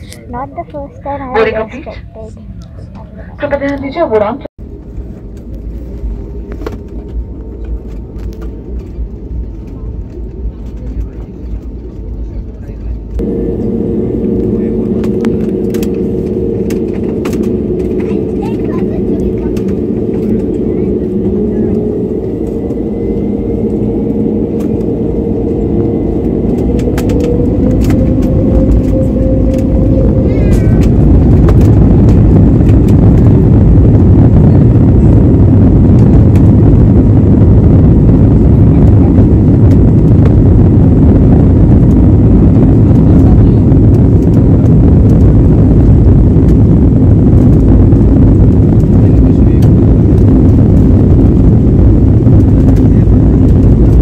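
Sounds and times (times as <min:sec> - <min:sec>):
jet airliner engine rumble: 0:00.0 - 0:54.0.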